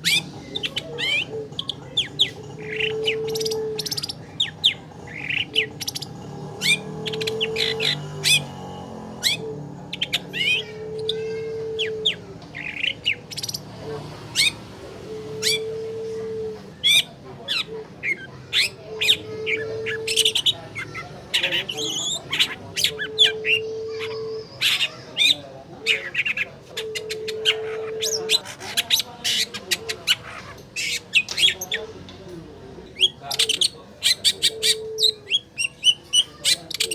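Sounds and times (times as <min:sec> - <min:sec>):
shrike harsh chattering song: 0:00.0 - 0:36.9.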